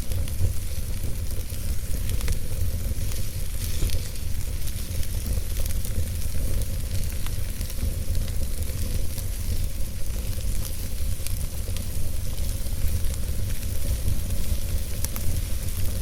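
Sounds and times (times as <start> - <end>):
fire crackling and popping: 0.0 - 16.0
fire hissing and rumbling: 0.0 - 16.0.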